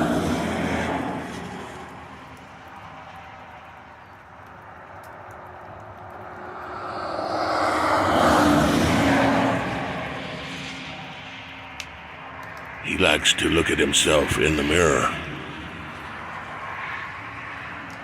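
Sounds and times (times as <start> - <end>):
vehicle passing by: 0.0 - 3.8, 4.5 - 18.0.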